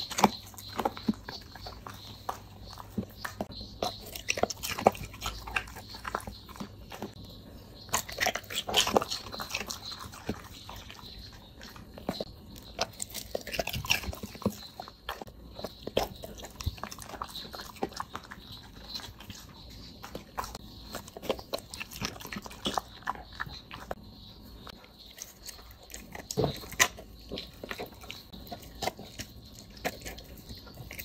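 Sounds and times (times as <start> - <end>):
dog crunching eggshells: 0.0 - 31.0.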